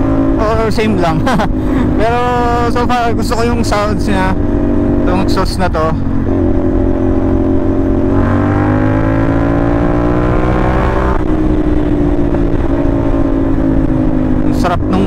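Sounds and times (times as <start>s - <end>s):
motorcycle engine revving: 0.0s - 15.0s
wind rushing over microphone: 0.0s - 15.0s.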